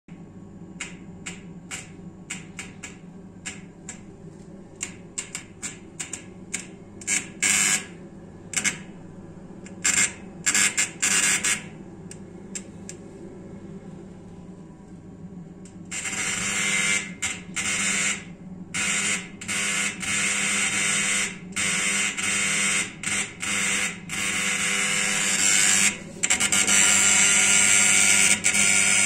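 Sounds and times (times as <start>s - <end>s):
steady low hum: 0.1s - 29.0s.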